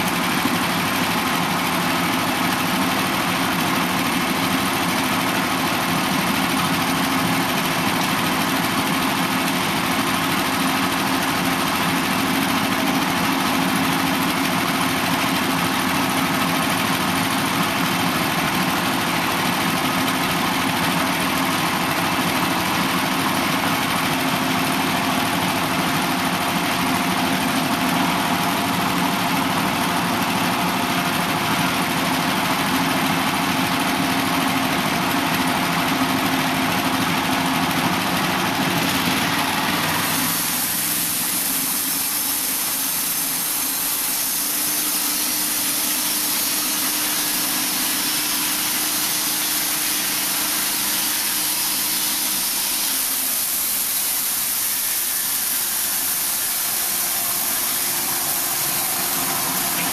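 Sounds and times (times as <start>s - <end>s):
sawmill engine running: 0.0s - 59.9s.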